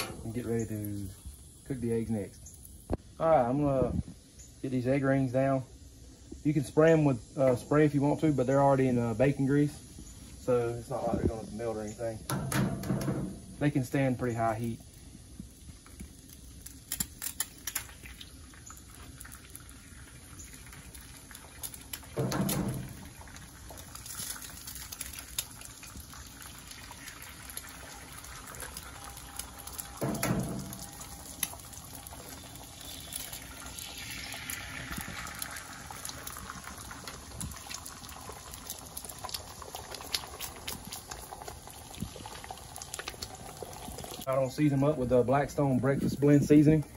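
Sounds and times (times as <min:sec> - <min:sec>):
eggs sizzling on a griddle: 0:04.2 - 0:44.3.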